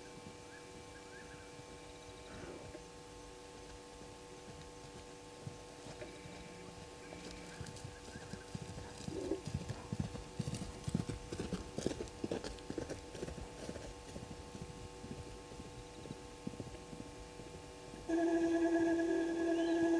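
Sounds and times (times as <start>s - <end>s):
electrical hum: 0.0s - 19.9s.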